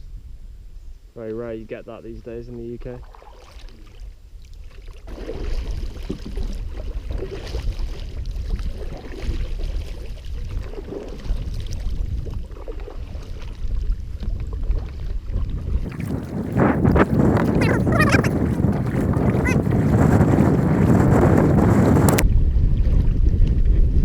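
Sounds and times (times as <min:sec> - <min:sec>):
wind rumbling on microphone: 0:00.0 - 0:03.1, 0:03.9 - 0:24.0
water splashing around paddles: 0:02.8 - 0:22.2.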